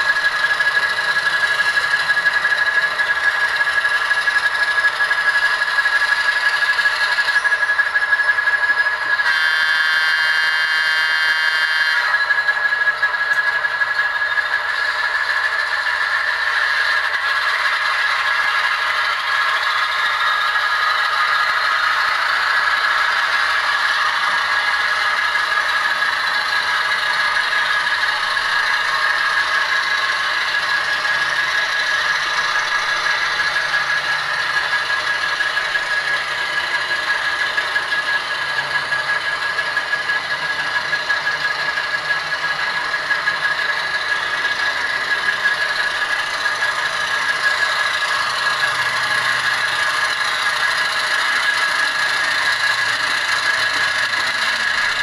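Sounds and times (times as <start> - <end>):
model locomotive high whine: 0.0 - 55.0.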